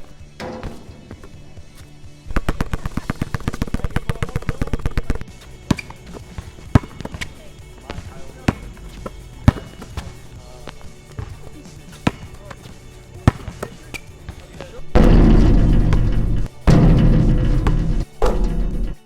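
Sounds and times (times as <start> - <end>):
basketballs bouncing: 0.4 - 19.0.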